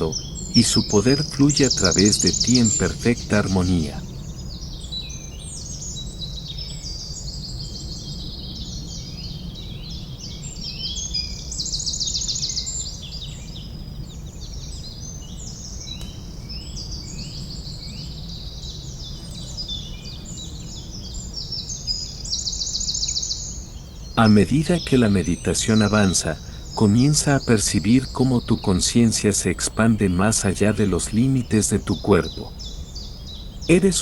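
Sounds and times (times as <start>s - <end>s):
bird trill: 0.0s - 34.0s
songbirds chirping and singing: 0.0s - 34.0s.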